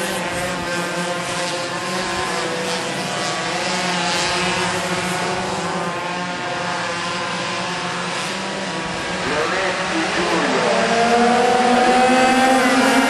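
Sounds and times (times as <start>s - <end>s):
pocket bikes buzzing at high revs: 0.0s - 13.0s.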